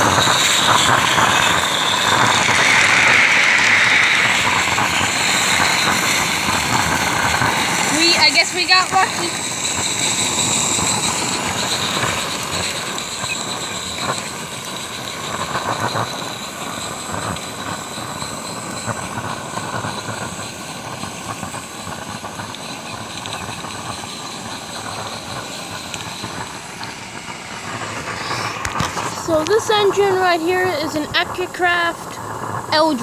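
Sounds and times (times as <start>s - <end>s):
model steam locomotive running: 0.0s - 33.0s
steam hissing: 0.0s - 33.0s.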